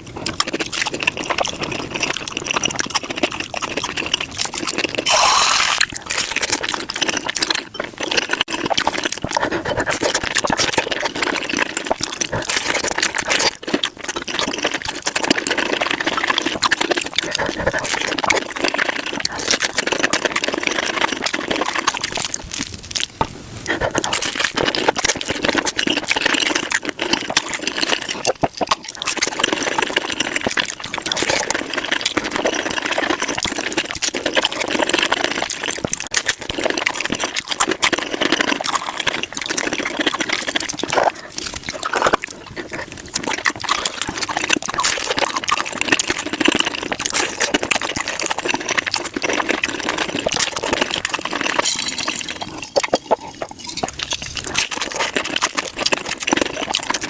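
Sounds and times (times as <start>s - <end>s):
sped-up crunching and chewing: 0.0s - 57.0s.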